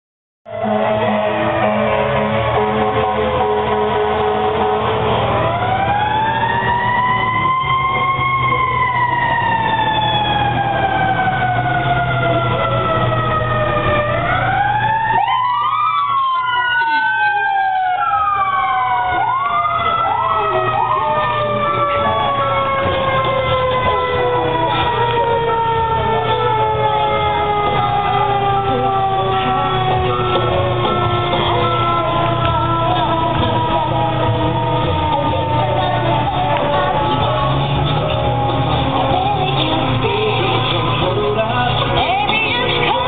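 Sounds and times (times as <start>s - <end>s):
fire truck sirens wailing: 0.4s - 43.0s
siren whoops: 0.5s - 40.3s.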